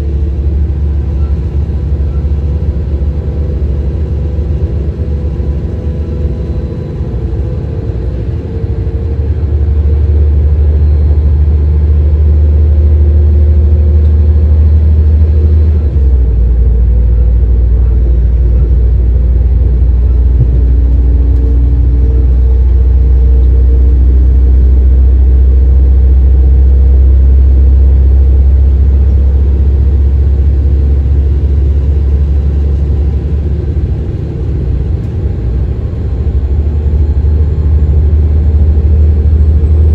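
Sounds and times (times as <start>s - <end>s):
diesel railcar engines rumbling: 0.0s - 39.9s.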